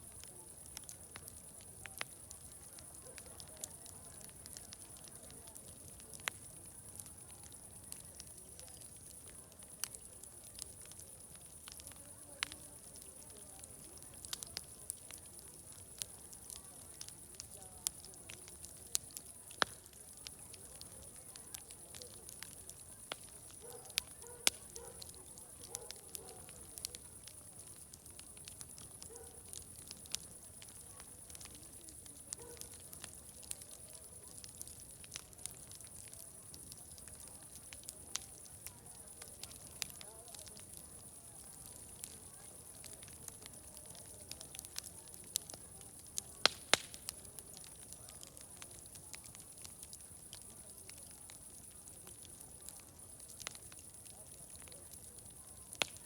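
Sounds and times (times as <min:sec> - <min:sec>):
fire crackling: 0:00.0 - 0:56.0
murmur of distant voices: 0:00.0 - 0:56.0.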